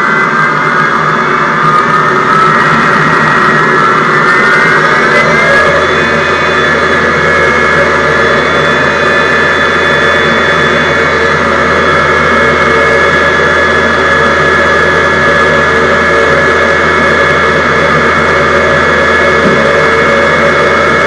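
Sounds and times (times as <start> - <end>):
jet engine rushing and whining: 0.0 - 21.0.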